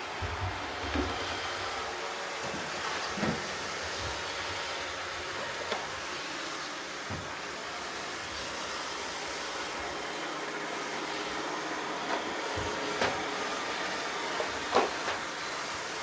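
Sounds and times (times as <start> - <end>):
robot vacuum whirring: 0.1 - 16.0.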